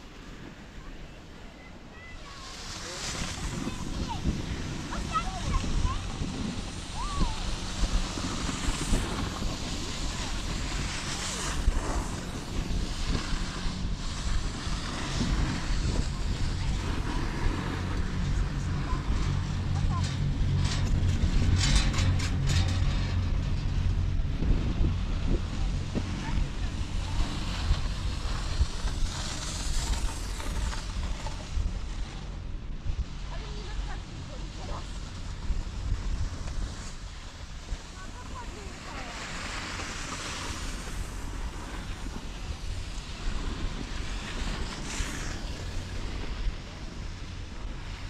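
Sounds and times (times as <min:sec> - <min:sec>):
wind buffeting microphone: 0:00.0 - 0:48.0
skis scraping on snow: 0:00.1 - 0:48.0.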